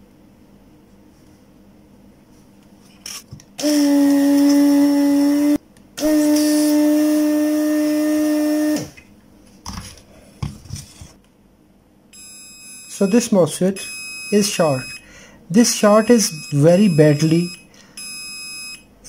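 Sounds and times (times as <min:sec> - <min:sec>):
desoldering vacuum pump humming: 0:02.1 - 0:11.4, 0:12.0 - 0:19.0.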